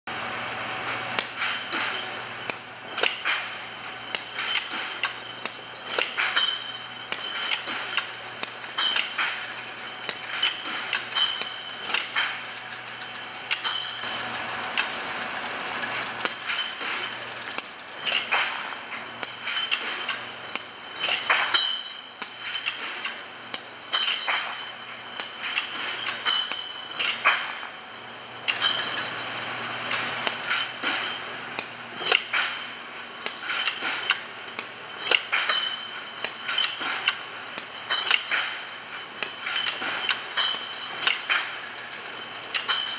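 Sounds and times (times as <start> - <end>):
glass bottles clinking: 1.3 - 14.3, 16.2 - 31.4, 32.0 - 42.9.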